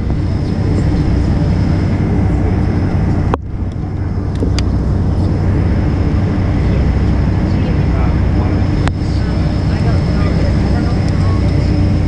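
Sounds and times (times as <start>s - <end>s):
airplane cabin rumble: 0.0s - 12.0s
faint steady whine: 0.0s - 12.0s.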